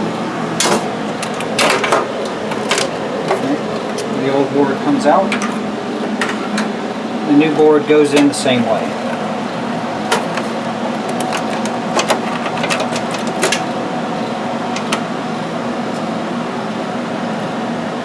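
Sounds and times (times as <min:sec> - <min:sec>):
background hum: 0:00.0 - 0:18.0.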